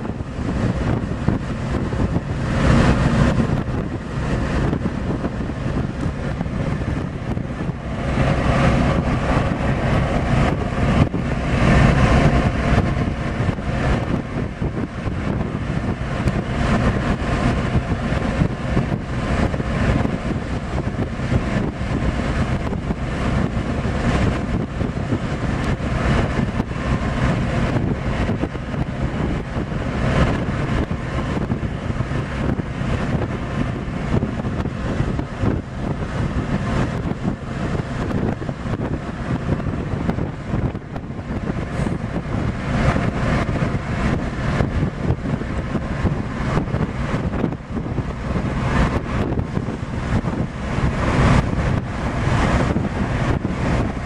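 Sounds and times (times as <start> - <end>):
ship engine drone and wake: 0.0 - 54.0
wind on microphone: 0.0 - 54.0.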